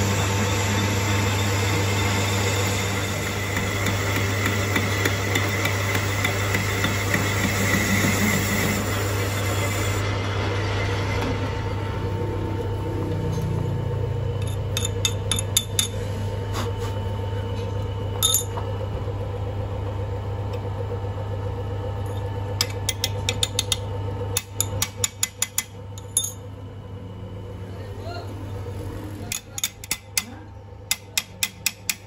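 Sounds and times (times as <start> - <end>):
lathe motor humming: 0.0 - 32.0.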